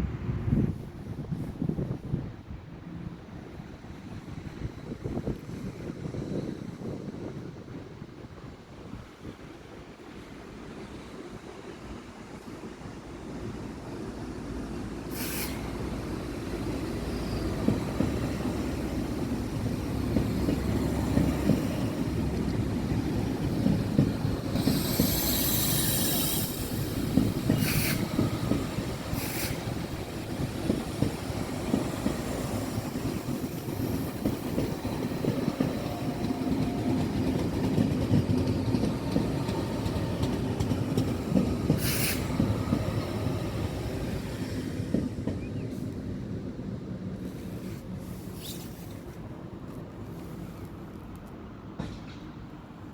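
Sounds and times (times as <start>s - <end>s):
train rumbling past: 0.0s - 52.9s.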